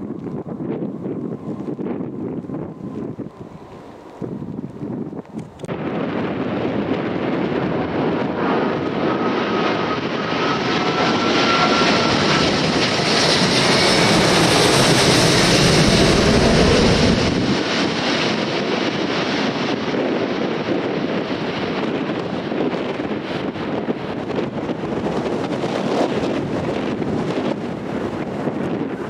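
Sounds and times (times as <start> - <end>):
jet airliner passing: 0.0 - 29.0.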